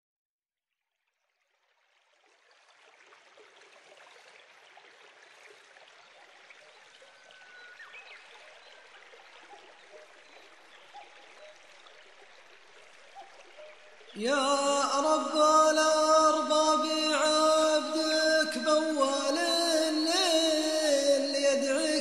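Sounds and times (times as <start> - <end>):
running water rushing: 1.3 - 22.0.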